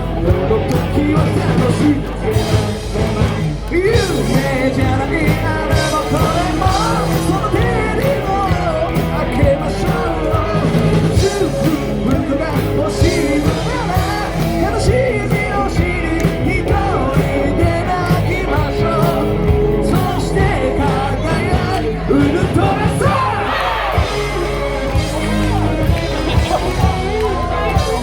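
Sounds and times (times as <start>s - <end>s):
live rock band playing: 0.0s - 28.0s
person singing: 0.0s - 28.0s.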